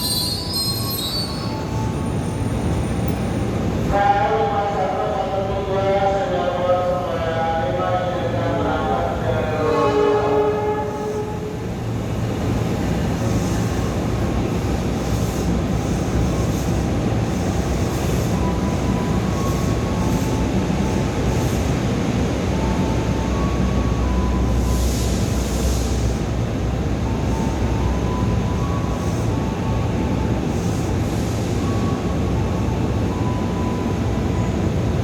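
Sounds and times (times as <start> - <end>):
electric train rumbling on track: 0.0 - 35.0.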